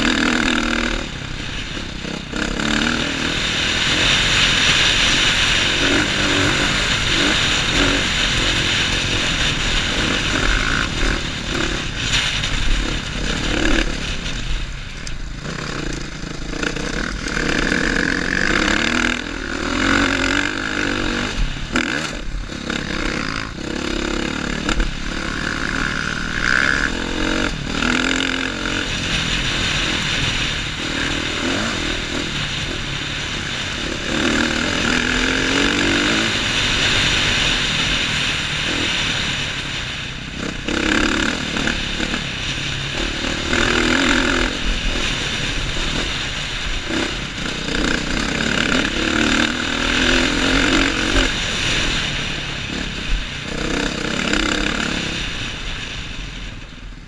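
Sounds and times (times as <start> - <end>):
dirt bike engine revving: 0.0 - 56.4
rattling over rough ground: 0.0 - 57.0
wind: 0.0 - 57.0.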